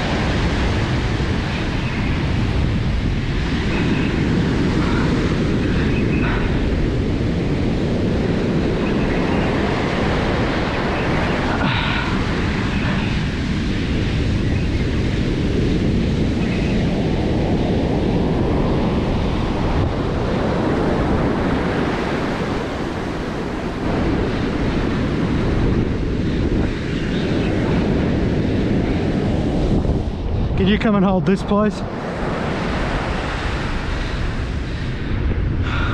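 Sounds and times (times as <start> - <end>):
ocean surf breaking on beach: 0.0 - 35.9
wind buffeting microphone: 0.0 - 35.9.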